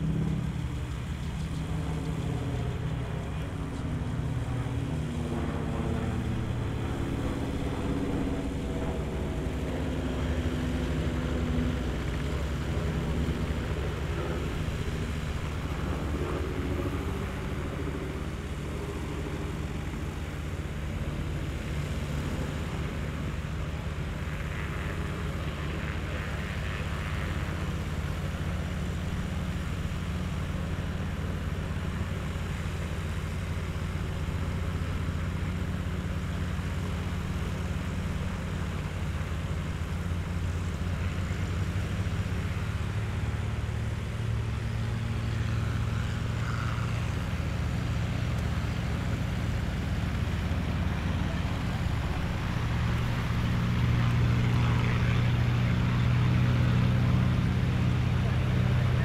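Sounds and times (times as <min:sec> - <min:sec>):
gyroplane engine and propeller drone: 0:00.0 - 0:59.0.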